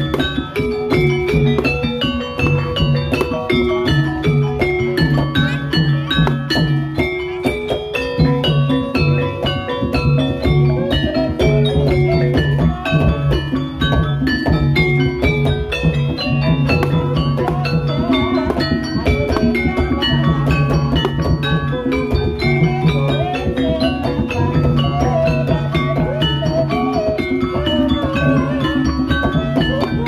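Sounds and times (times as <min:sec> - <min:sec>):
drum strokes: 0:00.0 - 0:30.0
gamelan ensemble playing: 0:00.0 - 0:30.0.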